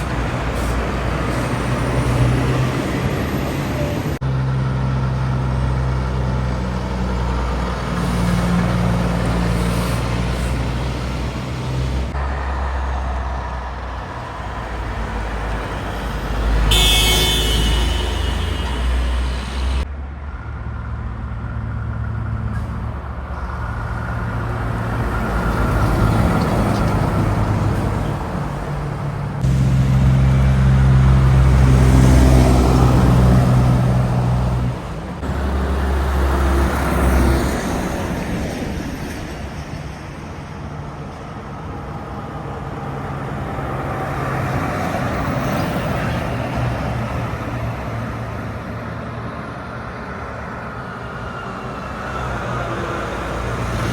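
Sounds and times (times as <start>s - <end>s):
heavy trucks passing: 0.0s - 53.9s
tyre and road noise: 0.0s - 53.9s.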